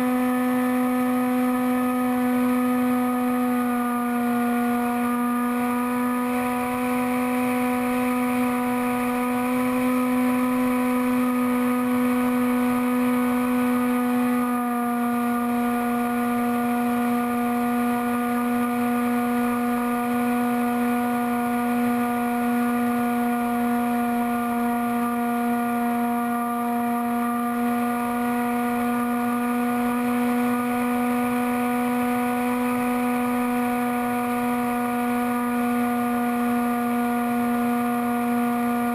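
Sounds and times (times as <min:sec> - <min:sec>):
electric motor and propeller droning: 0:00.0 - 0:38.9.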